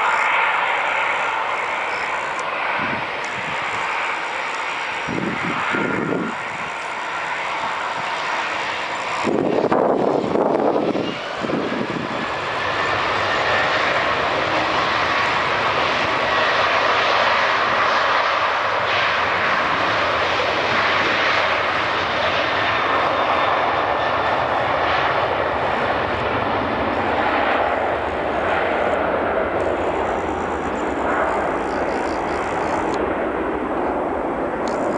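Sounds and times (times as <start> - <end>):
jet engines spooling up: 0.0 - 34.9.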